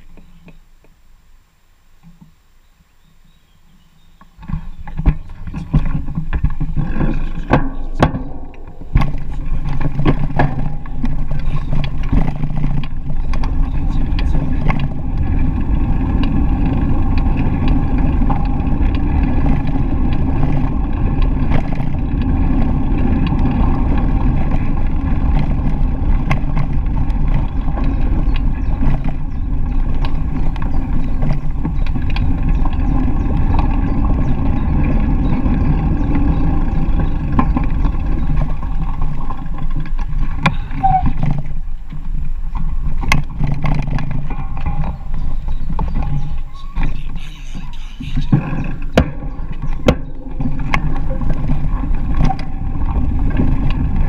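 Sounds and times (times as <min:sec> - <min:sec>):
bicycle tyres rumbling: 0:00.0 - 0:54.0
wind on microphone: 0:04.4 - 0:54.0.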